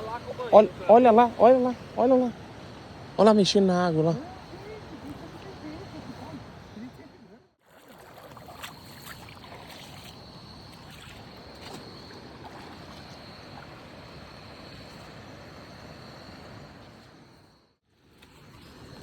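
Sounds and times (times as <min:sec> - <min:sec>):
rushing river: 0:00.0 - 0:17.0.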